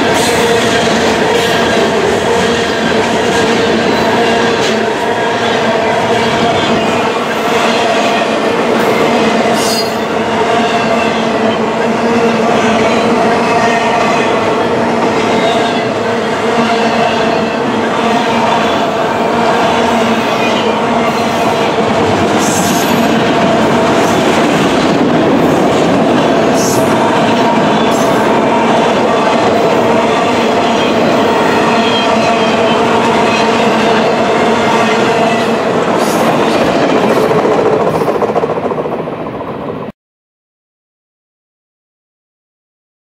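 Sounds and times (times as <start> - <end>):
train cars rumbling past: 0.0 - 39.9.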